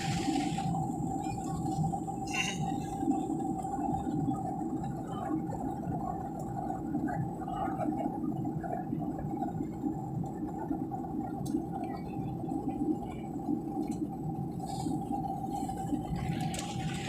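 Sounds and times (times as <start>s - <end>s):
airliner cabin engine drone: 0.0s - 17.0s
constant hum: 0.0s - 17.0s.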